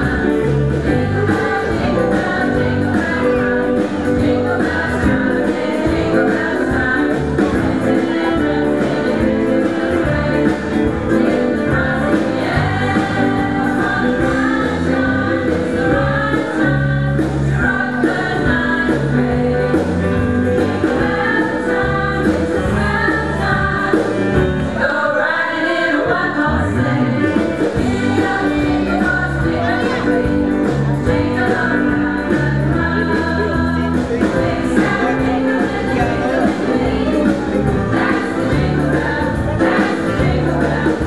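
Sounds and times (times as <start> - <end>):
choir singing: 0.0 - 41.0
instrumental backing with bass: 0.0 - 41.0.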